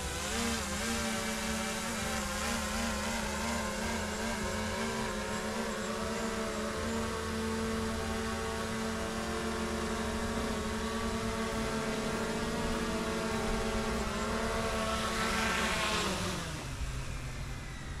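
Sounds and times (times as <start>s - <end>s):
drone propellers whining: 0.0s - 18.0s
rush of rotor wash: 0.0s - 18.0s.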